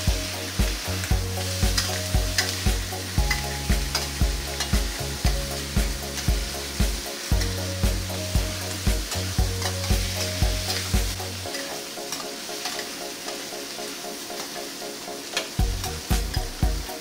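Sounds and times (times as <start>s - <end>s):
chicken sizzling in a wok: 0.0s - 17.0s
metal spatula scraping a pan: 0.1s - 14.6s.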